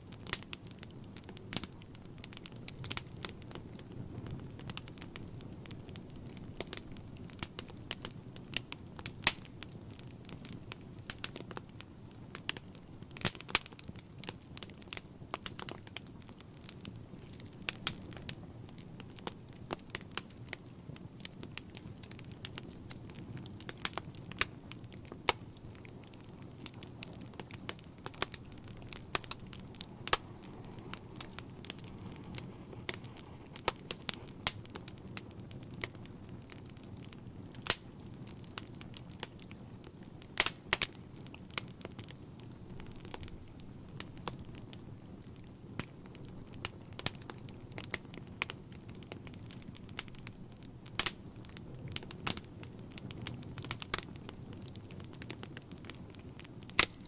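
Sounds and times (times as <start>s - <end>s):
fire crackling and popping: 0.0s - 57.0s
low rush of flame: 0.0s - 57.0s.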